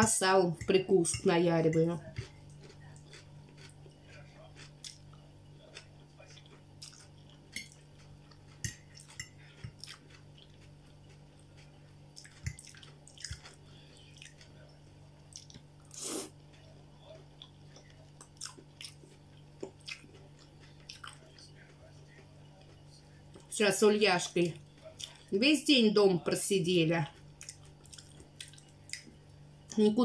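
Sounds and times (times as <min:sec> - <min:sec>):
person chewing and mouth smacks: 0:02.0 - 0:23.5, 0:24.6 - 0:25.3, 0:27.4 - 0:29.2.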